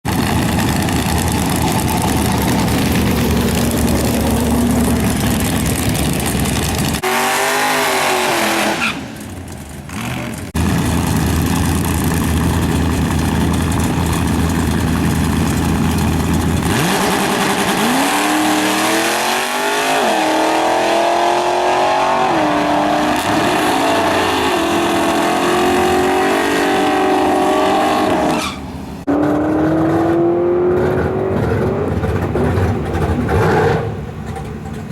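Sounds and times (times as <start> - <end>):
pickup engine revving: 0.1 - 34.9.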